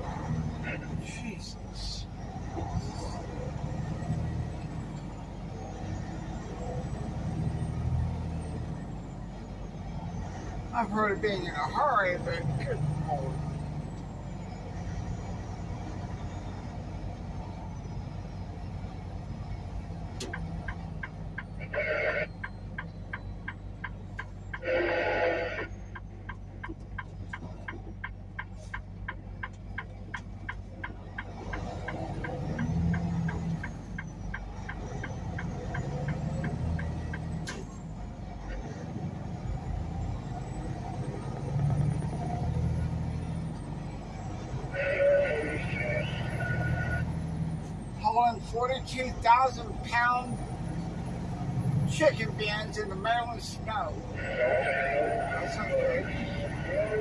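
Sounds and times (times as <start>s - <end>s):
truck engine and road hum: 0.0s - 57.0s.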